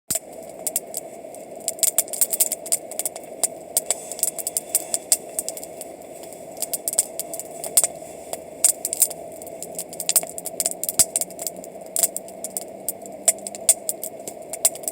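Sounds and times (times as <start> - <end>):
campfire wood crackling and popping: 0.1 - 14.9
faint steady hum: 0.1 - 14.9.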